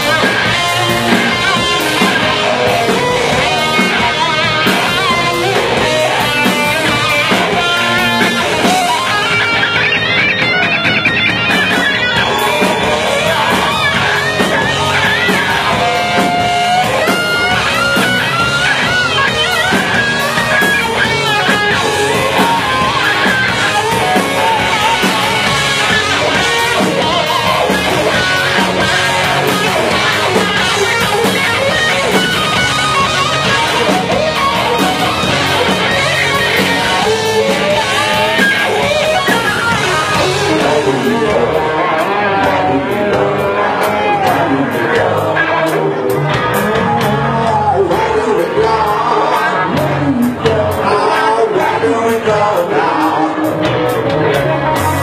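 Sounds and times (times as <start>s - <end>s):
electric guitar lead with bent notes: 0.0s - 55.0s
rock band playing live: 0.0s - 55.0s.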